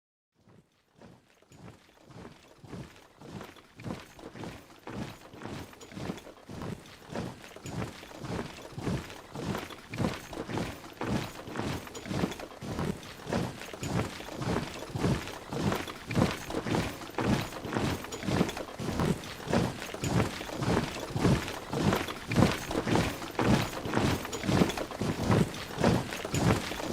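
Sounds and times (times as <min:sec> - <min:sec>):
soldiers marching in step: 0:00.4 - 0:26.9.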